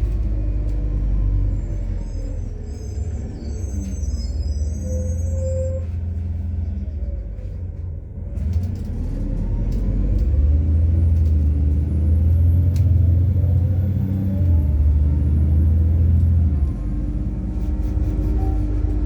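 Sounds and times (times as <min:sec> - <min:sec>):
bus engine accelerating: 0:00.0 - 0:19.0.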